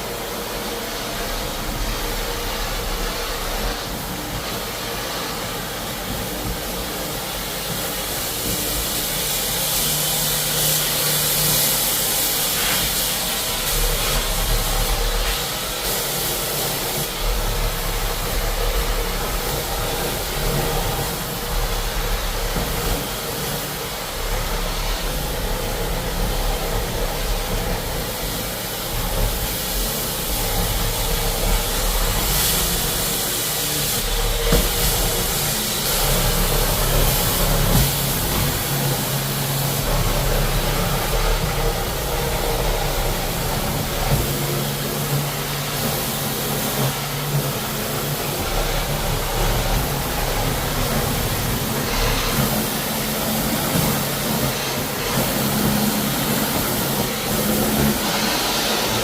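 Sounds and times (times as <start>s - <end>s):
floor cleaning machine hissing: 0.0s - 59.0s.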